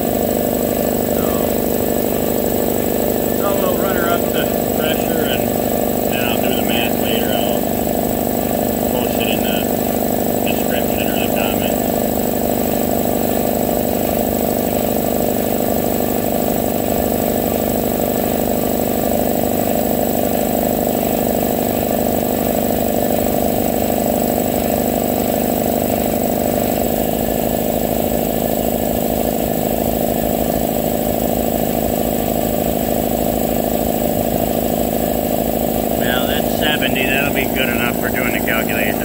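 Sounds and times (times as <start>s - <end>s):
air compressor running: 0.0s - 39.0s.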